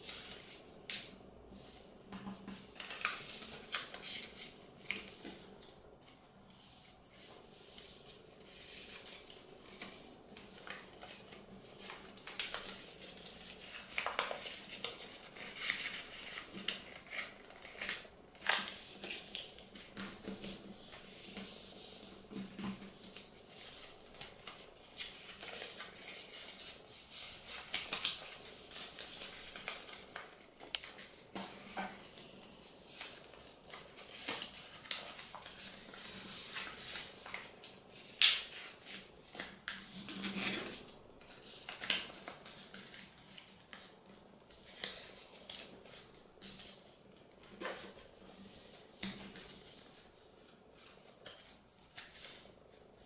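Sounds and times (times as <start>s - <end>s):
paper being folded and creased: 2.3s - 53.0s.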